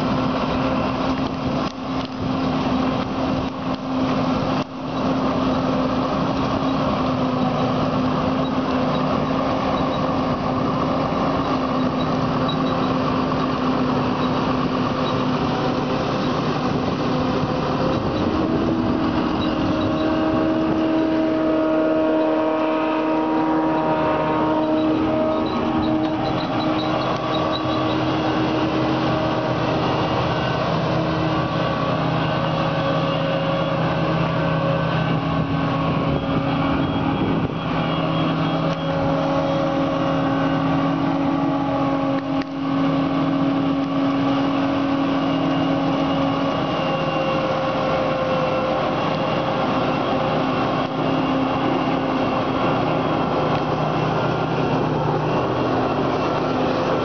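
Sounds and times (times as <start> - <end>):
forage harvester droning: 0.0 - 57.0.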